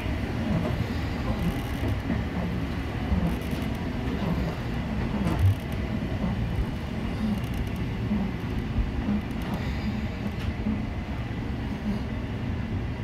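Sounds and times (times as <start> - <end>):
train low rumble inside car: 0.0 - 13.0.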